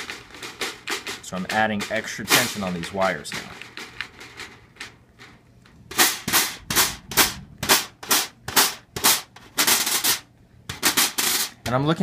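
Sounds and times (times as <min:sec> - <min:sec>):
snare wires rasping: 0:00.0 - 0:04.9, 0:05.9 - 0:12.0.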